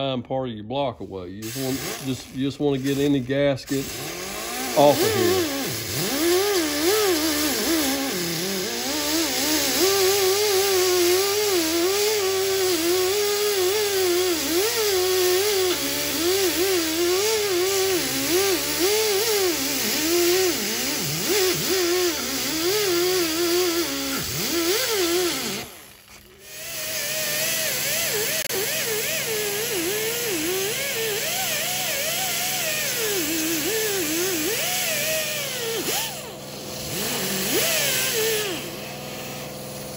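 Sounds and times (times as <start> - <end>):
air die grinder whining: 1.3 - 39.9.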